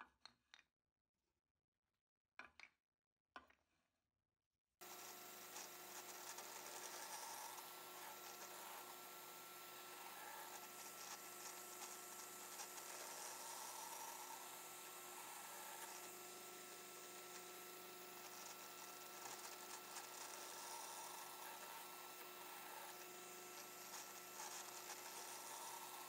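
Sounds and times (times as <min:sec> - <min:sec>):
drill press motor hum: 0:04.8 - 0:26.0.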